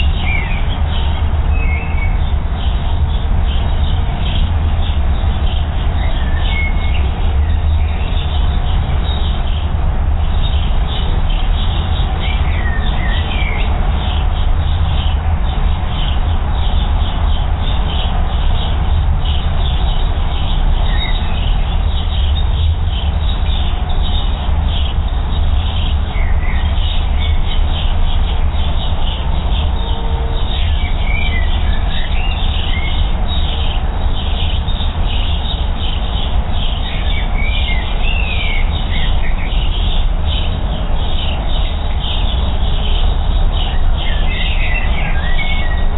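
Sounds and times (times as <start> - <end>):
steady low rumble: 0.0 - 45.9
wild birds chirping: 0.0 - 45.9.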